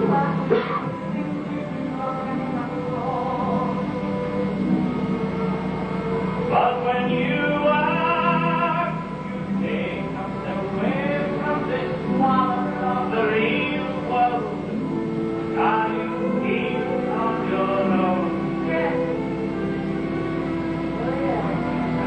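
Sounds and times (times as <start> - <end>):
person singing: 0.0 - 4.8, 6.4 - 19.6.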